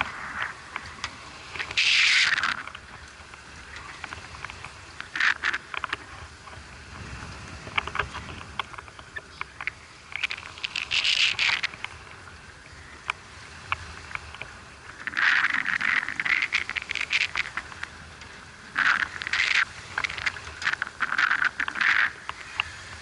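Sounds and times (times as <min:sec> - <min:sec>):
low boat rumble: 0:00.0 - 0:23.0.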